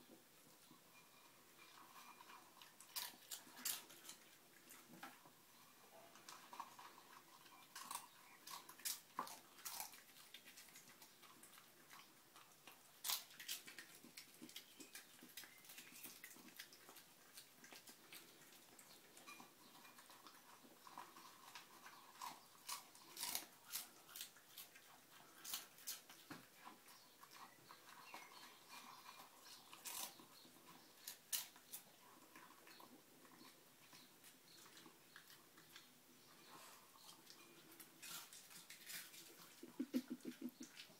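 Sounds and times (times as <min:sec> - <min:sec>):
dog crunching kibble: 0:01.7 - 0:05.3, 0:06.1 - 0:40.9.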